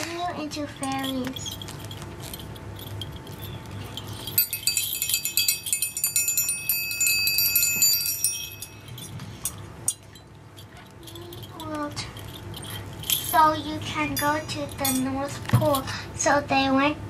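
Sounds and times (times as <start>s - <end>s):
metal chimes ringing: 0.8s - 15.9s.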